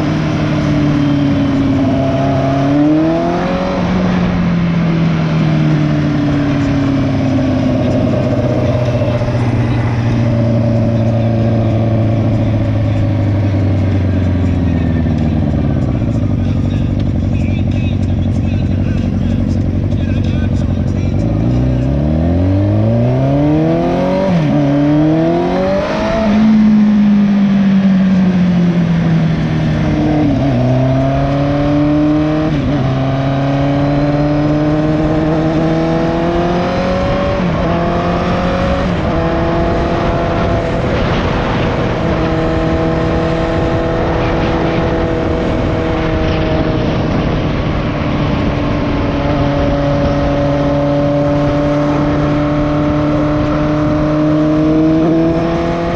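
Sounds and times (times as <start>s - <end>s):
motorcycle engine revving through gears: 0.0s - 55.9s.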